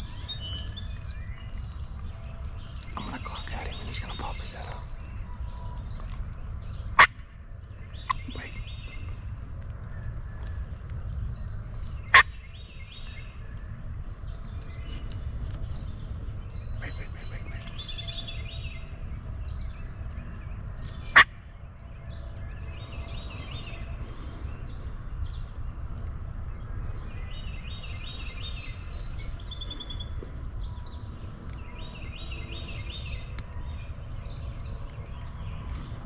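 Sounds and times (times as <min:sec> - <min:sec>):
birds singing: 0:00.0 - 0:36.0.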